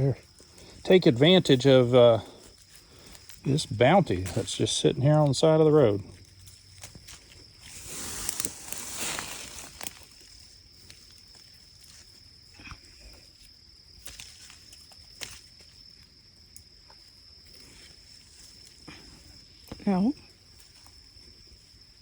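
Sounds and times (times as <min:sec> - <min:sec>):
rustling of grass and brambles: 0:00.0 - 0:22.0.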